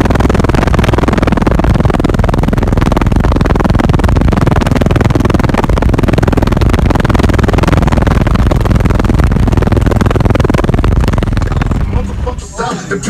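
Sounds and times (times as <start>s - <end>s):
distorted bass-heavy car music: 0.0s - 13.0s.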